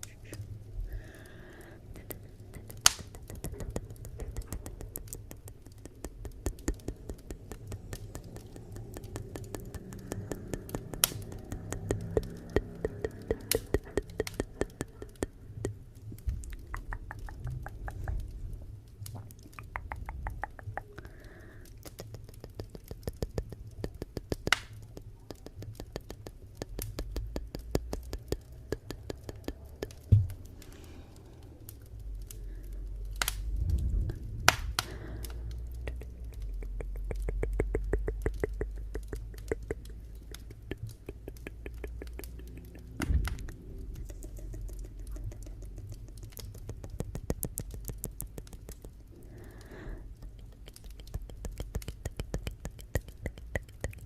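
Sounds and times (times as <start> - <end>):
wood fire crackling: 0.0 - 54.0
low rumble of flames: 0.3 - 23.0, 26.5 - 53.6.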